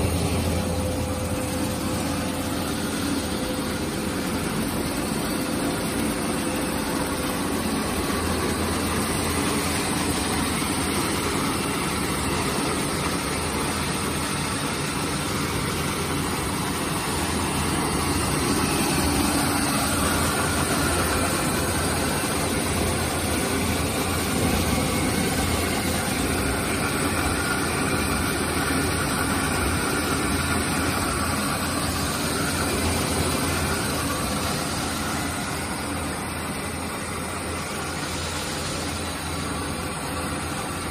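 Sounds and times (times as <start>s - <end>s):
rice milling machine running: 0.0s - 40.9s.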